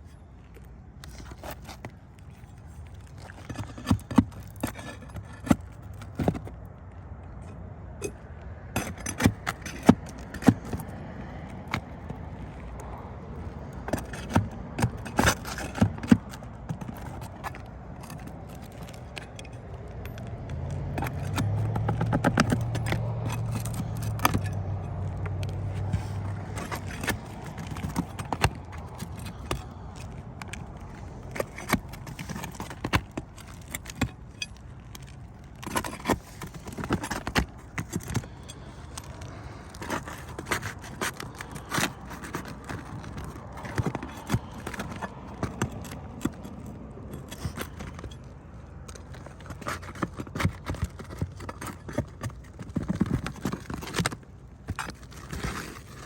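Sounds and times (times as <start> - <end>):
sharp clicks and knocks: 0.5 - 56.0
shingles being scraped loose: 1.0 - 6.7, 8.0 - 56.0.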